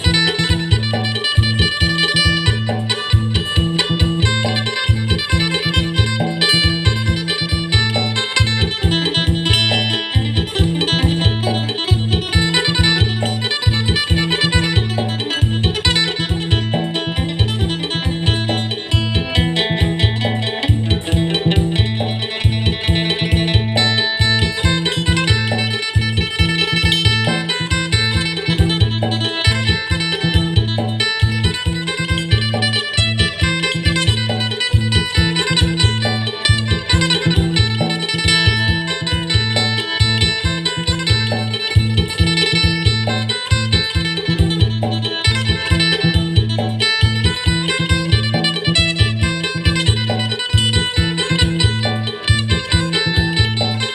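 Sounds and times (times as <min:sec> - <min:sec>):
plucked lute fast bright melody: 0:00.0 - 0:53.9
regular beat: 0:00.0 - 0:53.9.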